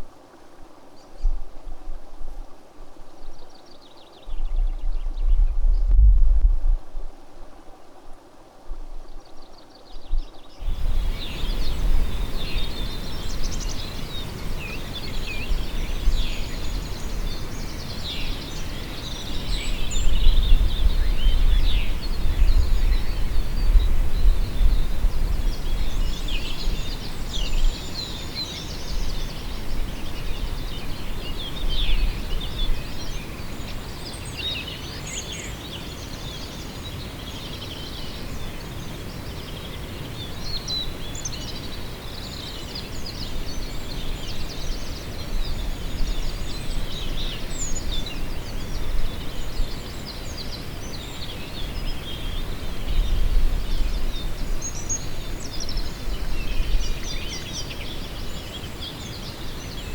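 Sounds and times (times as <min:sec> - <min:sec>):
wind rumble on microphone: 0:00.9 - 0:59.9
small birds chirping: 0:09.5 - 0:59.9.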